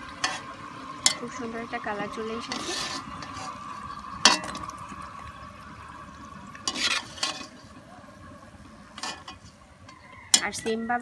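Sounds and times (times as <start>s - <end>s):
frying oil sizzling: 0.0s - 11.0s.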